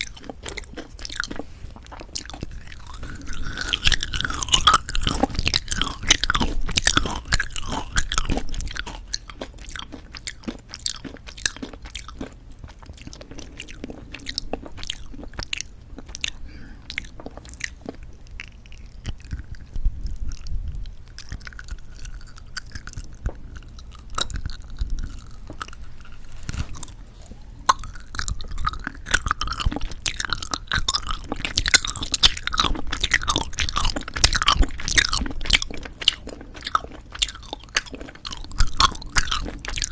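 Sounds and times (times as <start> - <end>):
candy crunching: 0.0 - 39.9
chewing jelly candy: 0.0 - 39.9
sticky mouth sounds: 0.0 - 39.9.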